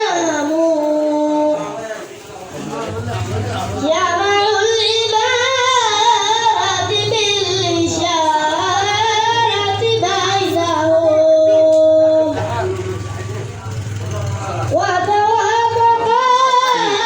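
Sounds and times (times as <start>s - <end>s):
boy singing devotional chant: 0.0s - 2.2s, 2.8s - 17.0s.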